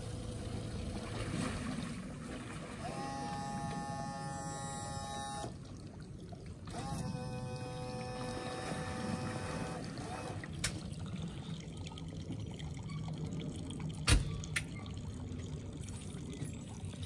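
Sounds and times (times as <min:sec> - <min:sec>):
water trickling and lapping: 0:00.0 - 0:17.0.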